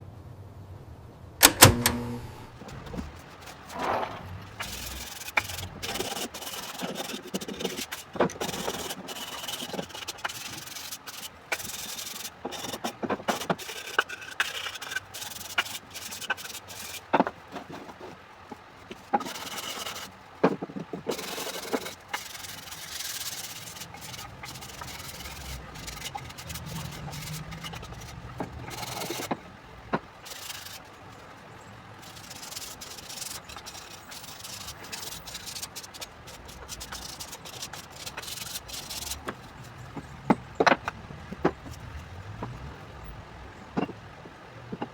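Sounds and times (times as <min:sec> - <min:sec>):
rubbing and scraping wood: 0:02.4 - 0:44.9.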